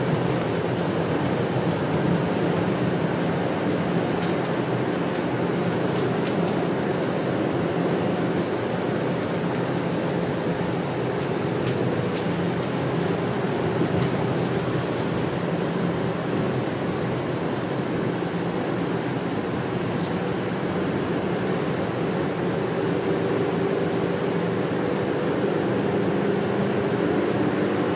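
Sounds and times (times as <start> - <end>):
bus engine drone: 0.0 - 27.9
tyre road noise: 0.0 - 27.9.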